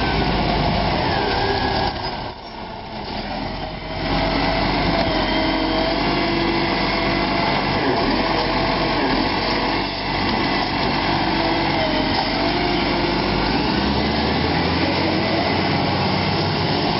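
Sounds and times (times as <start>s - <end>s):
garbage truck engine drone: 0.0s - 16.9s.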